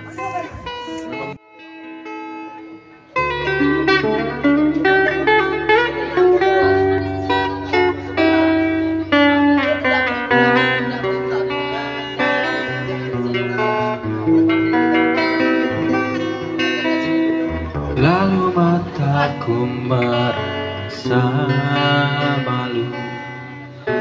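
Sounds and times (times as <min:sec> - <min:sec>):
plucked guitar notes: 0:00.0 - 0:24.0.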